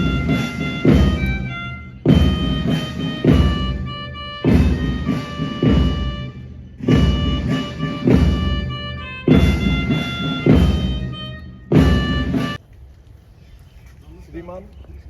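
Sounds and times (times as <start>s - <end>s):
heavy drum strokes: 0.0s - 12.6s
held wind instrument notes: 0.0s - 12.6s.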